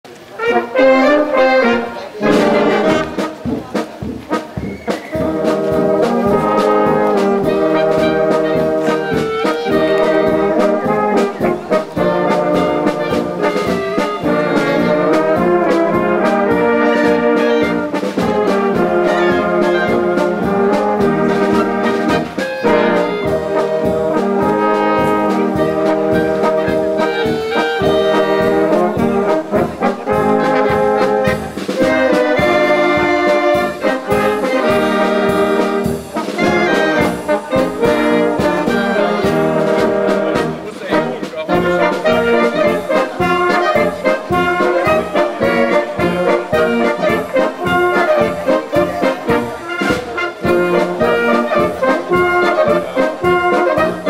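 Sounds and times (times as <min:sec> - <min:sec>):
brass band playing: 0:00.1 - 0:54.0.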